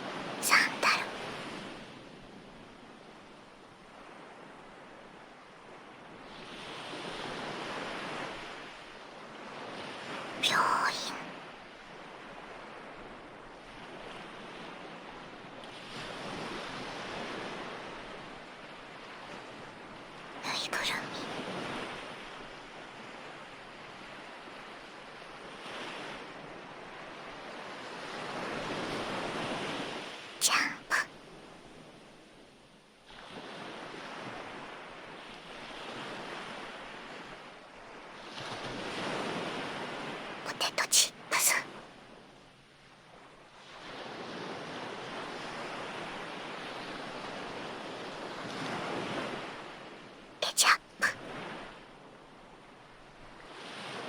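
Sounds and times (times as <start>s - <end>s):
ocean waves washing onto shore: 0.0s - 20.5s, 21.1s - 54.0s.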